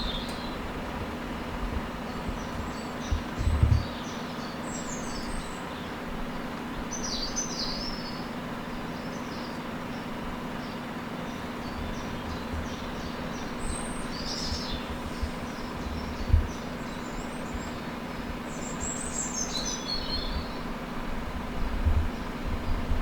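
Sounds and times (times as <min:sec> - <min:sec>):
small birds chirping: 0:00.0 - 0:22.9
steady low hum: 0:00.0 - 0:23.0.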